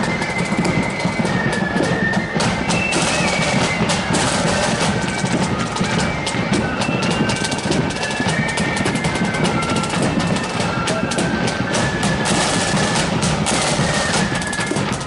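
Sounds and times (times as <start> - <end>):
flute tune: 0.0 - 15.0
side drum rolls: 0.0 - 15.0.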